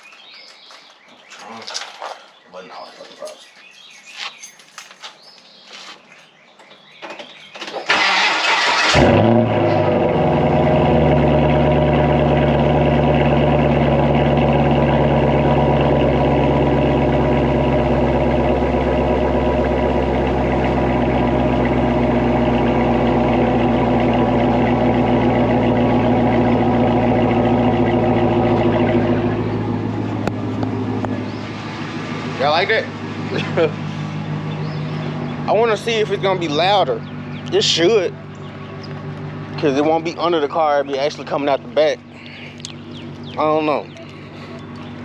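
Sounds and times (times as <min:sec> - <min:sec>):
car engine starting and idling: 0:06.9 - 0:45.0.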